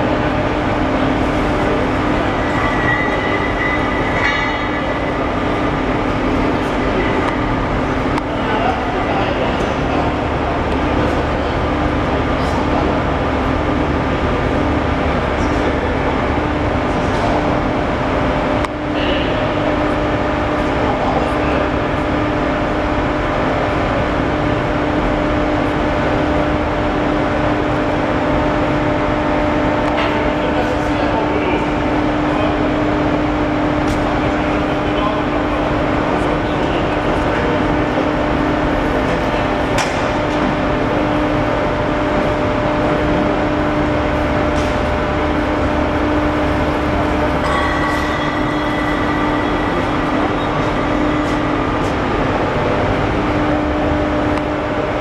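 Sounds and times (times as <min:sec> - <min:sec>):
machinery hum and rumble: 0:00.0 - 0:55.0.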